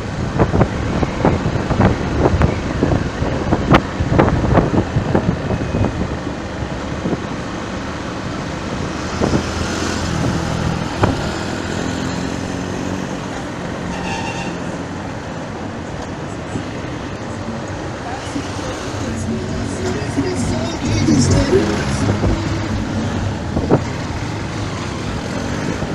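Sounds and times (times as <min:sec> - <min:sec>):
road and wind noise: 0:00.0 - 0:25.9
vehicle engines running: 0:00.0 - 0:25.9.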